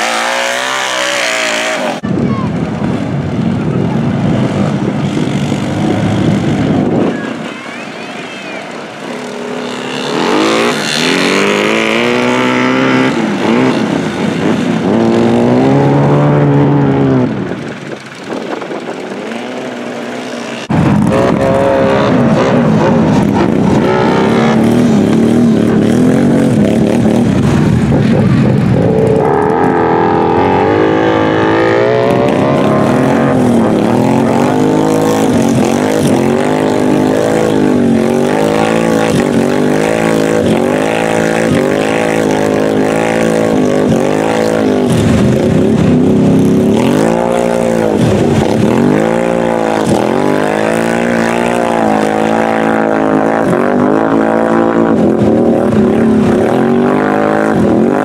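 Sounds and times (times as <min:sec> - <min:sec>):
tyres churning through mud: 0:00.0 - 0:02.0, 0:03.9 - 0:58.0
atv engine revving: 0:00.0 - 0:58.0.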